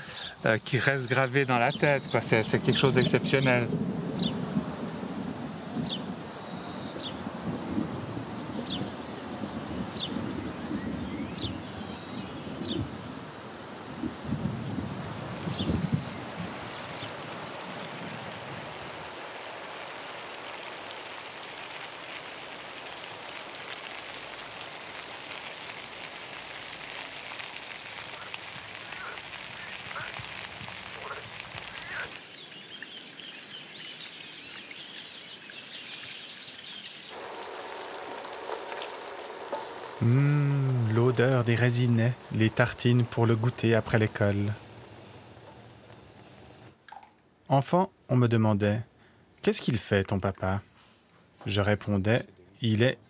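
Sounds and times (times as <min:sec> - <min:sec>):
rain falling on river: 0:00.0 - 0:47.0.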